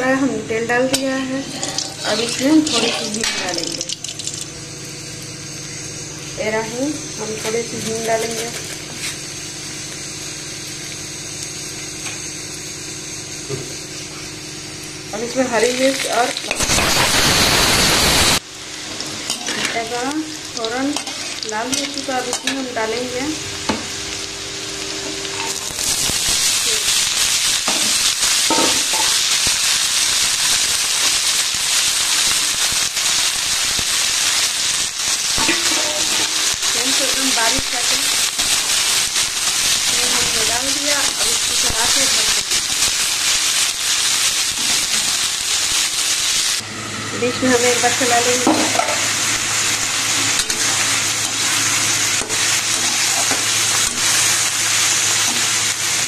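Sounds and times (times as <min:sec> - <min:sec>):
beans sizzling in hot oil: 0:00.0 - 0:46.6, 0:47.3 - 0:56.0.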